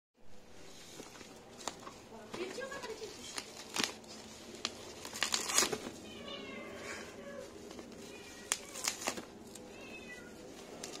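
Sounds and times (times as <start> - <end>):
bubble-wrap mailer crinkling: 0.9 - 11.0.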